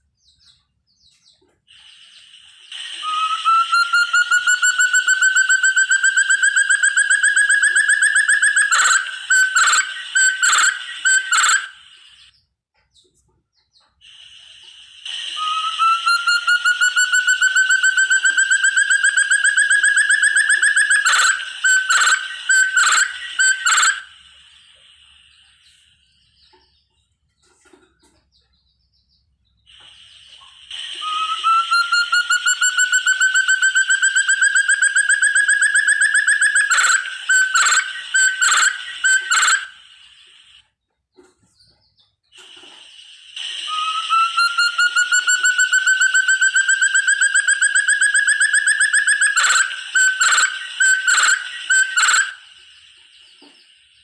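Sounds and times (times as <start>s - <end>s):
partridge whistled calls: 0.0s - 27.0s, 28.0s - 54.0s.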